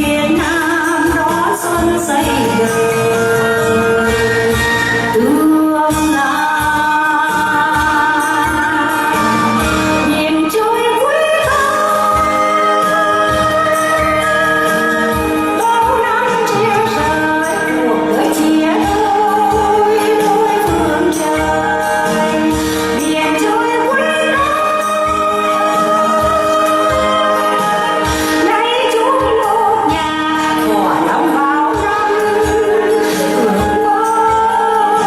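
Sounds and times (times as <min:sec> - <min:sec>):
amplified instrumental backing: 0:00.0 - 0:35.0
woman singing: 0:00.0 - 0:35.0.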